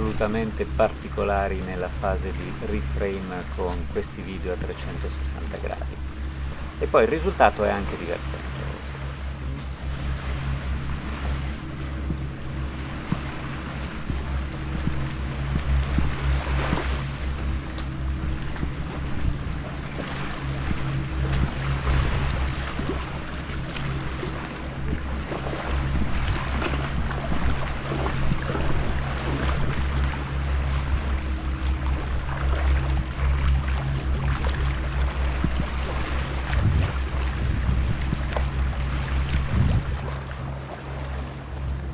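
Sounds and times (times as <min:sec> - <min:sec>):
wind on microphone: 0:00.0 - 0:40.5
steady low drone: 0:00.0 - 0:41.9.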